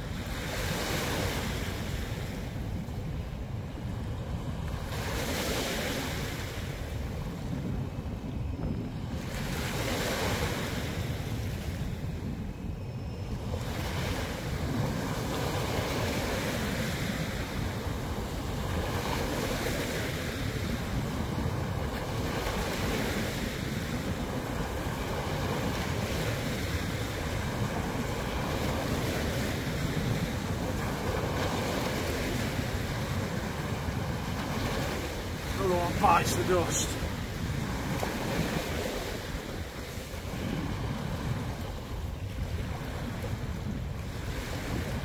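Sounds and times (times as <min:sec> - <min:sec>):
small waves washing ashore: 0:00.0 - 0:45.0
wind buffeting microphone: 0:00.0 - 0:45.0.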